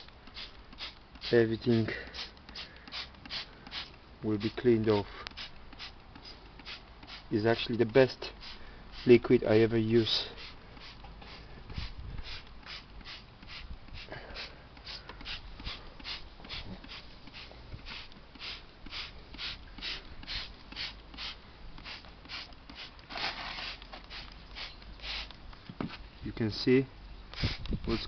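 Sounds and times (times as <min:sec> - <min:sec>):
spray bottle squirting: 0:00.0 - 0:09.3, 0:10.0 - 0:26.0, 0:27.3 - 0:28.0.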